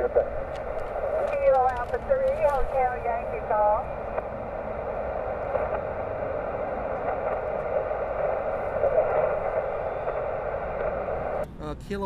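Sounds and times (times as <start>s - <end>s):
radio speaker hissing: 0.0s - 11.4s.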